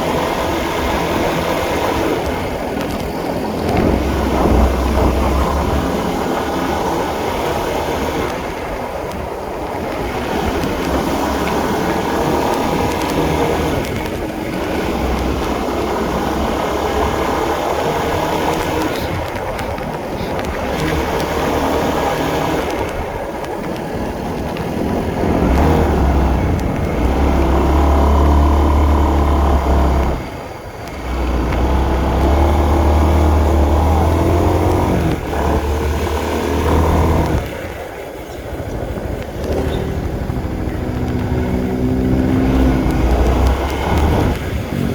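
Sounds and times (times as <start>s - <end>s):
motorcycle engine revving: 0.0s - 44.9s
wind rumble on microphone: 0.0s - 44.9s.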